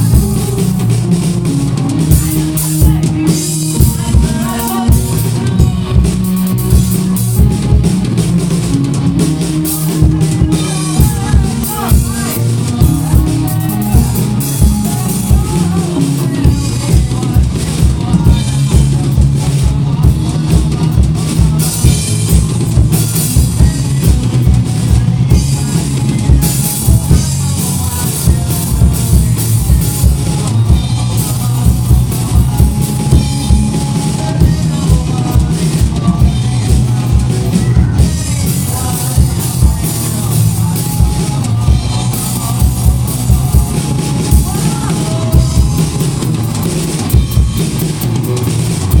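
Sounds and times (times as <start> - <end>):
bass drum beat: 0.0 - 49.0
instrumental rock music: 0.0 - 49.0.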